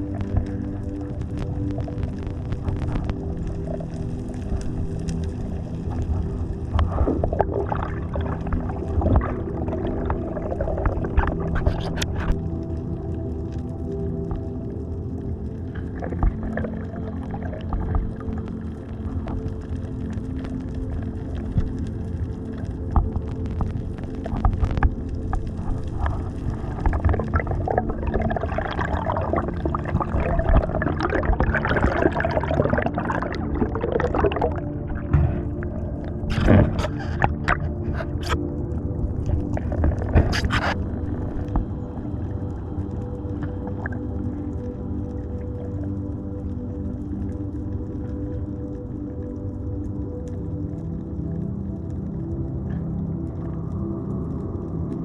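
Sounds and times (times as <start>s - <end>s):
water gurgling underwater: 0.0s - 51.5s.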